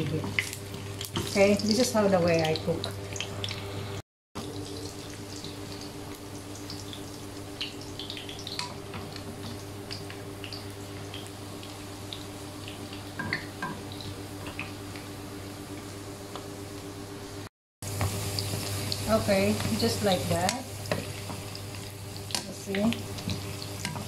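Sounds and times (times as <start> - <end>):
potatoes sizzling in oil: 0.0 - 16.0, 17.8 - 24.0.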